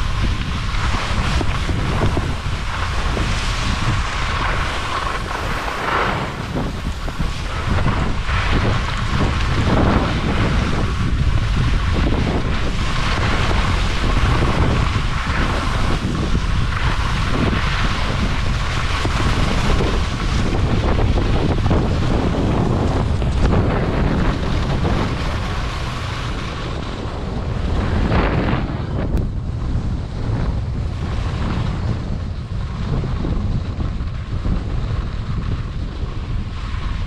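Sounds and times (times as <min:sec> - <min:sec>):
skis scraping on snow: 0:00.0 - 0:37.0
wind buffeting microphone: 0:00.0 - 0:37.0.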